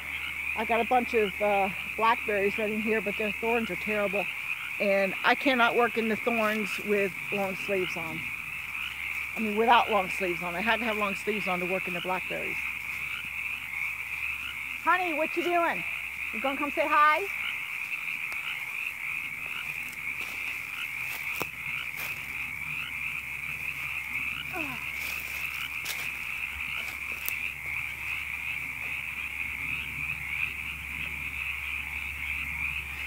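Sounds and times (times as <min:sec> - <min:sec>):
chorus of frogs calling: 0:00.0 - 0:33.0.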